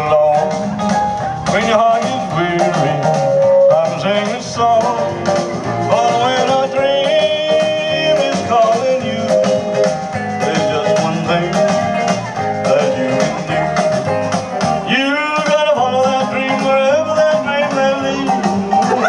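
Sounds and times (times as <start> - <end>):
rock and roll music: 0.0 - 19.0.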